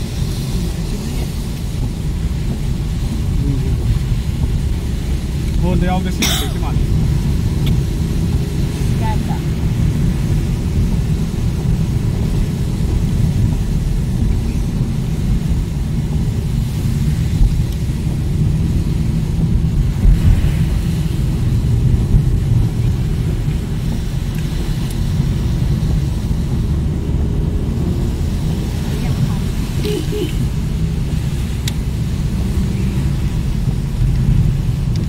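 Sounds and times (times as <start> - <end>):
car driving on wet road: 0.0 - 35.0.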